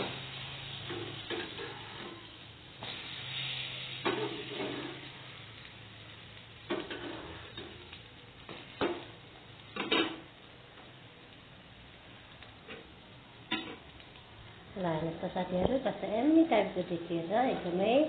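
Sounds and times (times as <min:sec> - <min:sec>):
bread sizzling in a pan: 0:00.0 - 0:18.0.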